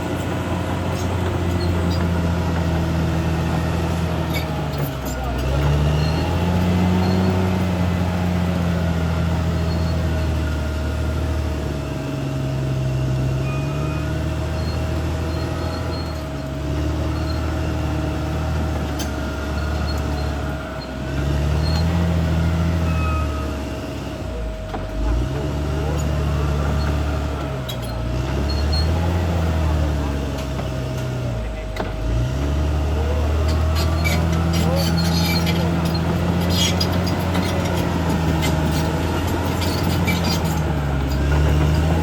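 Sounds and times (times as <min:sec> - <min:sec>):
bulldozer diesel engine working: 0:00.0 - 0:42.0.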